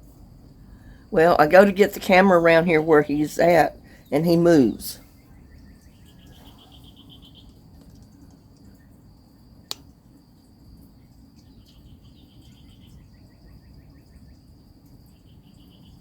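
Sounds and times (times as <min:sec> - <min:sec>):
insects chirping: 0:00.1 - 0:16.0.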